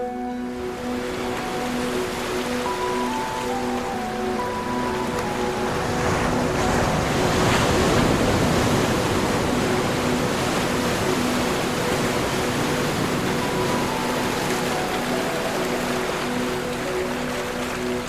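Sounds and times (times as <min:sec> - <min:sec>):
ocean surf washing ashore: 0:00.0 - 0:18.0.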